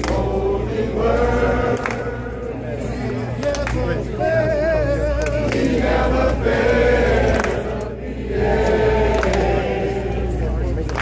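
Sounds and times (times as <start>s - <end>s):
crowd singing a hymn: 0.0s - 11.0s.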